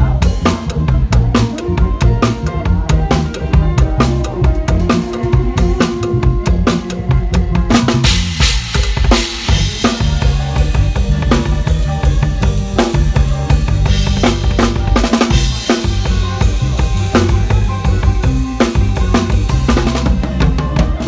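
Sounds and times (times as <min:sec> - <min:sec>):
band music: 0:00.0 - 0:21.0
bass drum and snare beat: 0:00.0 - 0:21.0
heavy bass line: 0:00.0 - 0:21.0.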